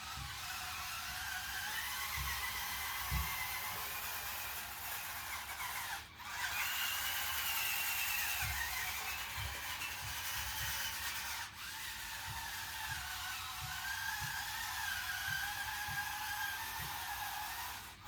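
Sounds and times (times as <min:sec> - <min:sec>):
small electric motors whining: 0:00.0 - 0:18.0.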